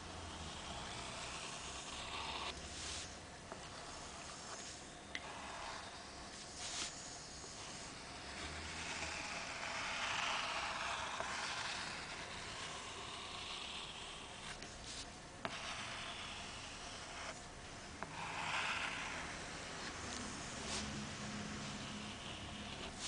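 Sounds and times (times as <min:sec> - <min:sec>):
pencil scratching on board: 0:00.2 - 0:17.4, 0:18.0 - 0:23.0.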